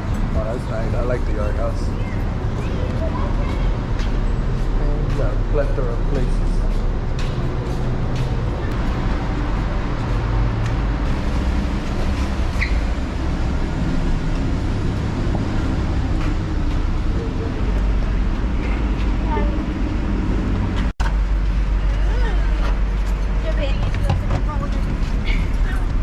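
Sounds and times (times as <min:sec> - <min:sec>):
vehicle and road rumble: 0:00.0 - 0:26.0.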